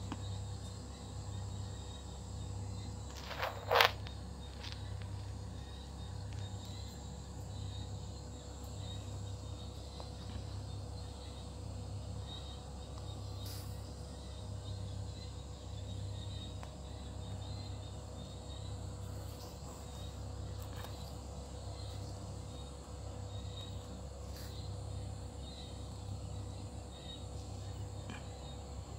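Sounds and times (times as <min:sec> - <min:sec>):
night insects chirping: 0:00.0 - 0:28.9.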